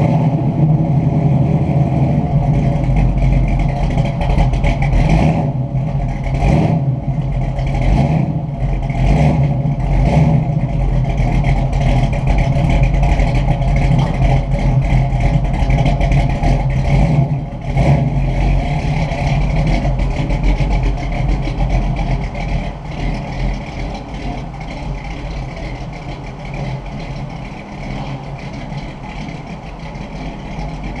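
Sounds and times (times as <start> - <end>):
car exhaust rumbling: 0.0 - 31.0.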